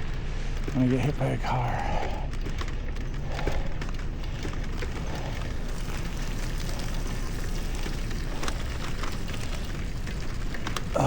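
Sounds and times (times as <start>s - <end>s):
bicycle tyres in snow: 1.8s - 11.0s.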